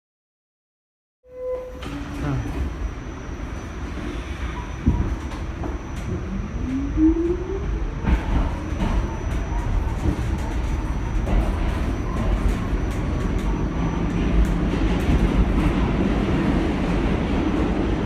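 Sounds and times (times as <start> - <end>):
subway car wheels rumbling: 1.3 - 18.0.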